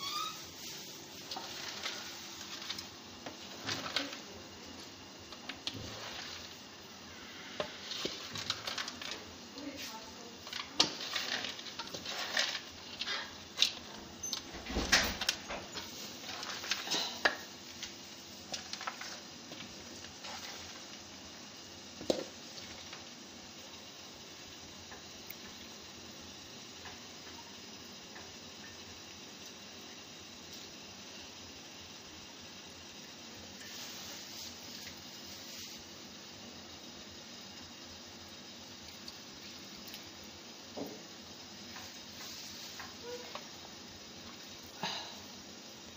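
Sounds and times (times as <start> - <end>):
steady hiss: 0.0 - 45.9.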